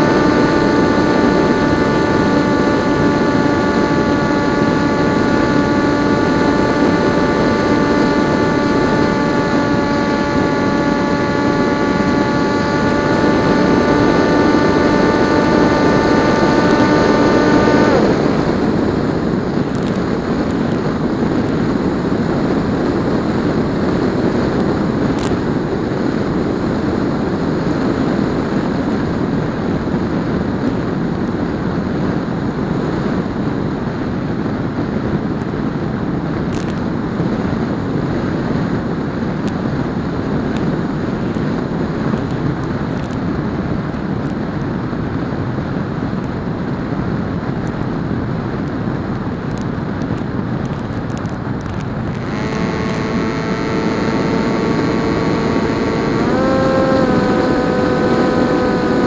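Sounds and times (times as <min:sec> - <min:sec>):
electric motor and propeller whining: 0:00.0 - 0:44.7, 0:48.6 - 0:59.0
wind rushing over microphone: 0:00.0 - 0:59.0.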